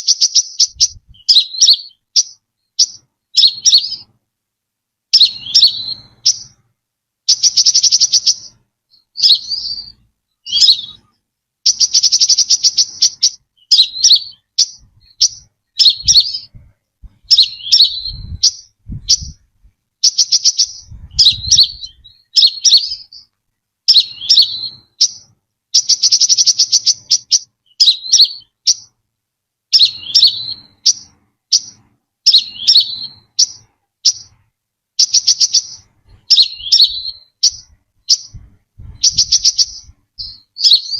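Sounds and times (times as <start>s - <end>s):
bird calling sharp notes: 0.0s - 4.1s, 5.1s - 6.6s, 7.3s - 16.6s, 17.2s - 23.3s, 23.9s - 29.0s, 29.7s - 34.4s, 35.0s - 40.9s
buzzy bird trills: 0.0s - 4.1s, 5.1s - 6.6s, 7.3s - 23.3s, 23.9s - 28.9s, 29.7s - 34.4s, 35.0s - 40.9s.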